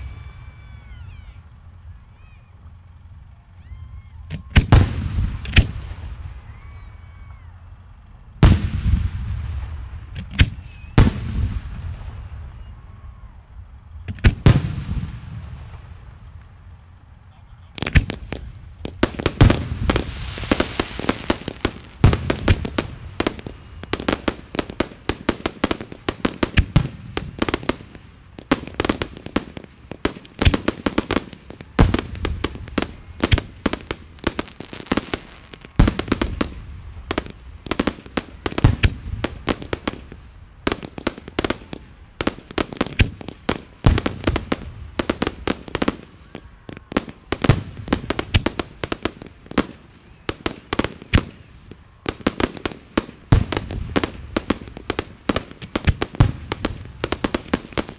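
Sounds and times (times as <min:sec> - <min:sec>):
fireworks bangs and crackling: 0:03.7 - 0:07.5, 0:08.3 - 0:57.9
deep firework booms: 0:04.3 - 0:06.7, 0:08.4 - 0:13.1, 0:14.0 - 0:16.6, 0:17.7 - 0:51.4, 0:52.1 - 0:57.9.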